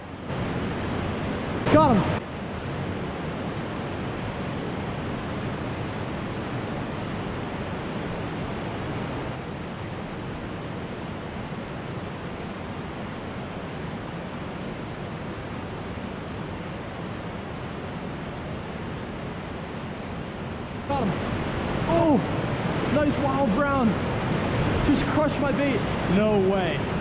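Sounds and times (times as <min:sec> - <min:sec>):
water rushing over rocks: 0:00.0 - 0:27.0.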